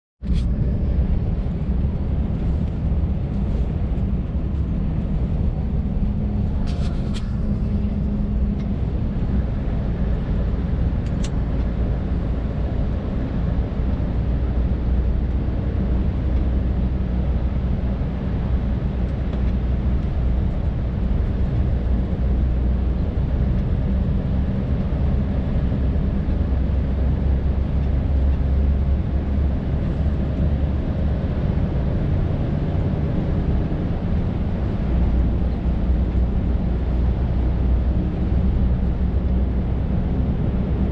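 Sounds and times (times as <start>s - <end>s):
diesel engine droning: 0.2s - 40.9s.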